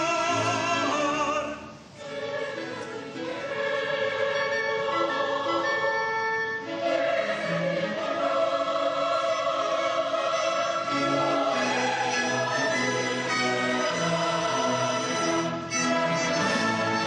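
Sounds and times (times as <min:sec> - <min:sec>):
mixed choir singing: 0:00.0 - 0:17.0
symphony orchestra: 0:00.0 - 0:17.0.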